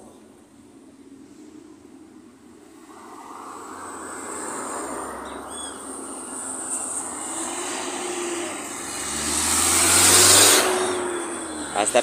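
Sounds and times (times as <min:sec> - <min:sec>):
vehicle engine approaching: 0:01.2 - 0:12.0.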